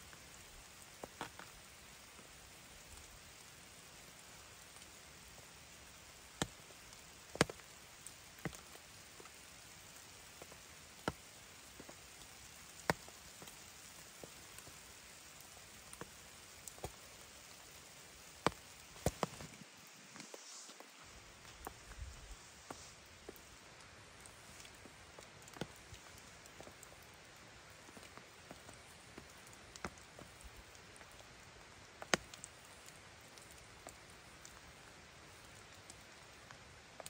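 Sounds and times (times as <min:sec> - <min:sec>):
raindrops ticking: 0:00.0 - 0:19.9, 0:23.0 - 0:37.0
light rain hiss: 0:00.0 - 0:37.0.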